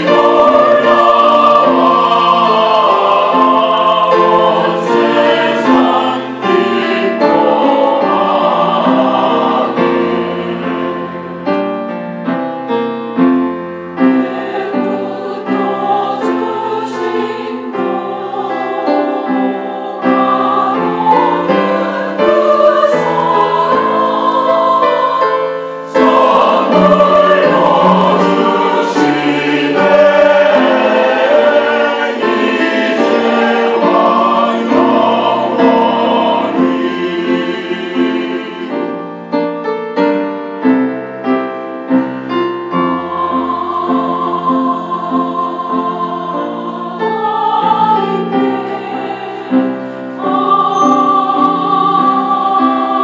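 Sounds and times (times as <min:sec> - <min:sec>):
church choir singing: 0:00.0 - 0:53.0
grand piano accompaniment: 0:00.0 - 0:53.0.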